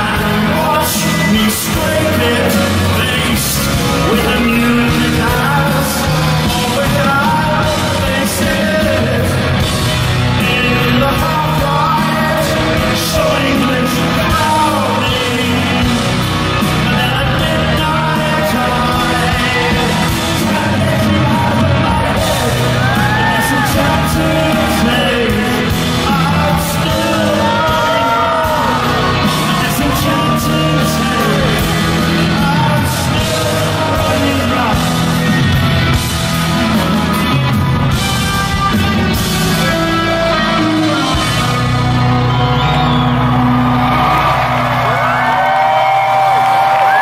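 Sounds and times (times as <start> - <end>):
man singing: 0.0 - 43.0
live rock band: 0.0 - 47.0
yells over music: 0.0 - 47.0.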